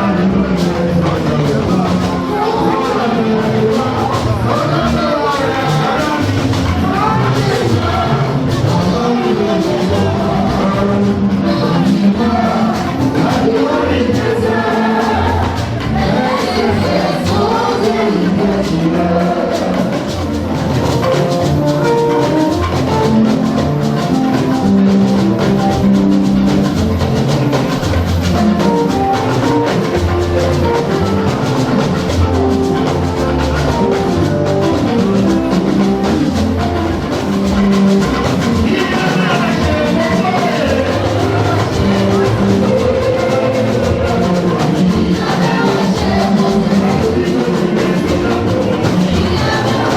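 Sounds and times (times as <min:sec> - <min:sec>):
singing: 0:00.0 - 0:30.5, 0:37.3 - 0:49.9
bass: 0:00.0 - 0:49.9
drum kit: 0:00.0 - 0:49.9
gospel band playing: 0:00.0 - 0:49.9.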